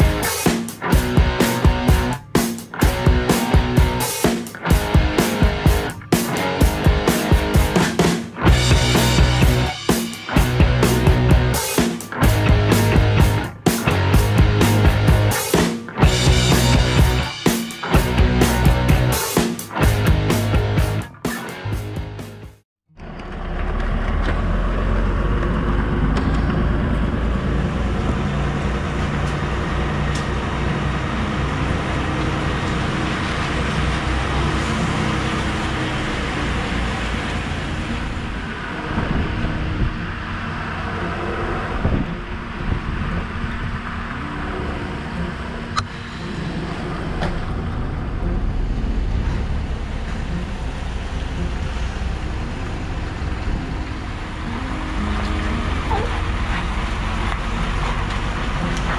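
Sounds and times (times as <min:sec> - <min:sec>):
diesel truck engine running: 0:04.7 - 0:11.6, 0:12.2 - 0:15.4, 0:16.0 - 0:19.2, 0:23.0 - 0:58.9.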